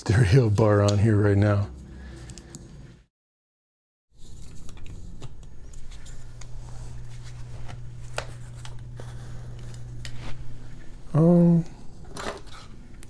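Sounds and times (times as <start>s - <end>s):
steady low hum: 0.0s - 3.1s, 4.2s - 13.0s.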